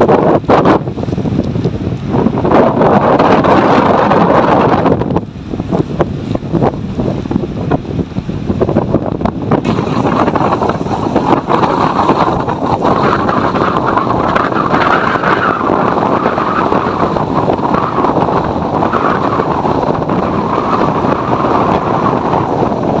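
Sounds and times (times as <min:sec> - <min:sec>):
storm wind buffeting microphone: 0:00.0 - 0:23.0.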